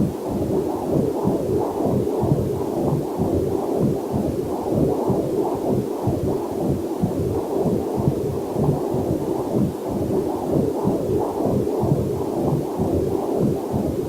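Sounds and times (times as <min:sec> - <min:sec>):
fetal heartbeat whooshing pulses: 0:00.0 - 0:14.0.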